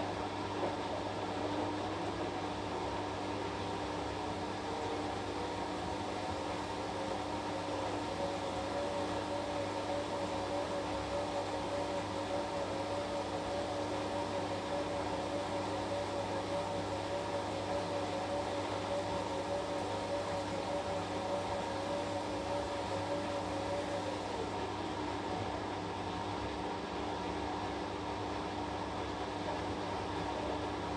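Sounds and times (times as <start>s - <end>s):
washing machine running: 0.0s - 30.9s.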